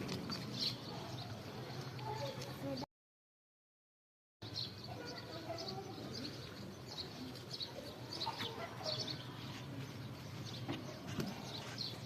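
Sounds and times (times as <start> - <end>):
small birds chirping: 0.0 - 2.9, 4.4 - 12.0.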